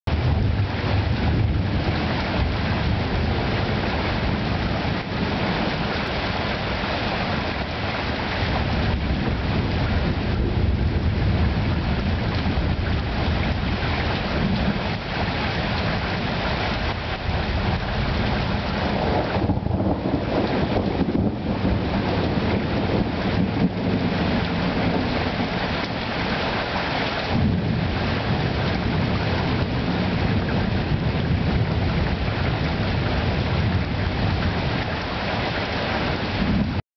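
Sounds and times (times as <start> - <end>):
heavy rain: 0.0 - 36.8
wind: 0.0 - 36.8
low thunder rumble: 0.1 - 36.8.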